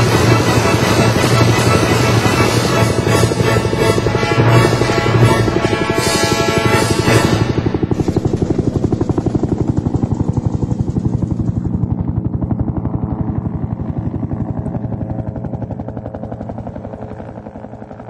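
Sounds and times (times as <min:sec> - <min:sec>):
helicopter rotor beating: 0:00.0 - 0:18.0.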